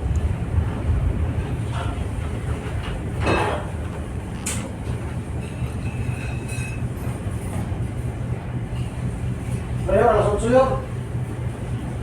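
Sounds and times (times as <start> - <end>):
ship low rumble: 0.0 - 12.0.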